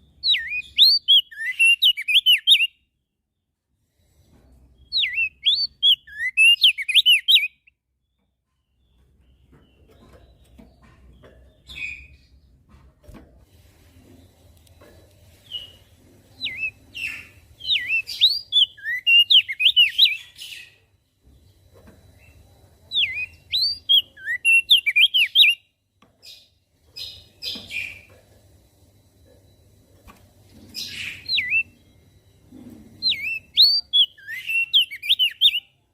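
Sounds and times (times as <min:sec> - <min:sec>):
bird twittering song: 0:00.0 - 0:03.5, 0:04.7 - 0:12.6, 0:15.4 - 0:28.2, 0:30.6 - 0:35.8.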